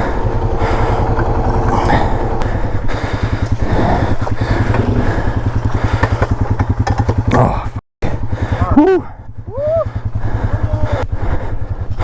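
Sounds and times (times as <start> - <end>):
atv engine under heavy throttle: 0.0 - 12.0.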